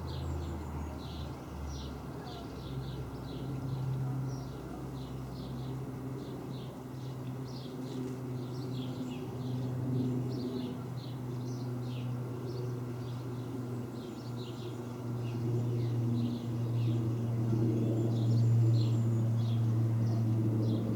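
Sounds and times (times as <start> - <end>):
aircraft drone overhead: 0.0 - 20.9.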